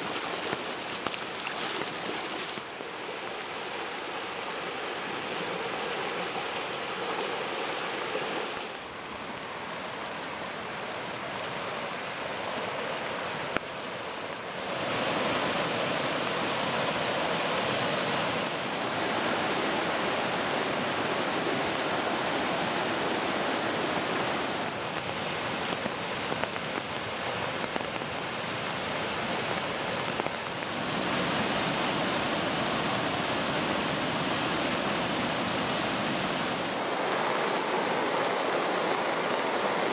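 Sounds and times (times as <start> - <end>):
roar of churning floodwater: 0.0 - 39.9.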